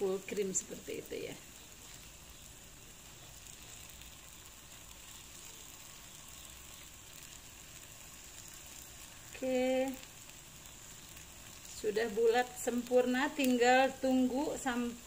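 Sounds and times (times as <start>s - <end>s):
batter sizzling in oil: 0.0s - 15.0s.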